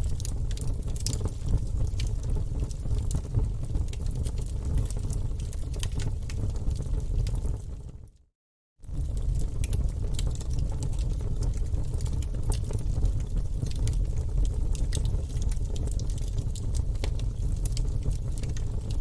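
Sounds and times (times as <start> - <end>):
logs crackling and popping: 0.0 - 7.8, 8.9 - 19.0
fire flames rumbling: 0.0 - 8.0, 8.8 - 19.0.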